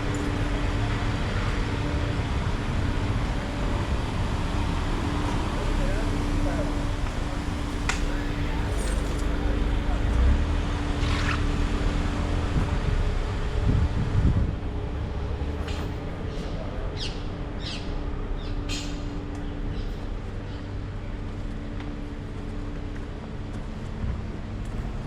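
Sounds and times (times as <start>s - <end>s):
constant hum: 0.0s - 25.0s
low rumble: 0.0s - 25.0s.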